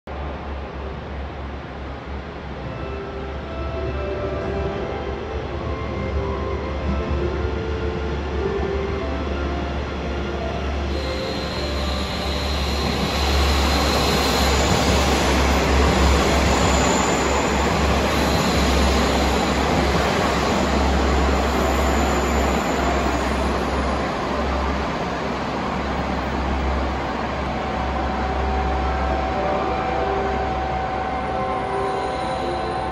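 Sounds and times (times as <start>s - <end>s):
train rail rumble: 0.1s - 32.9s.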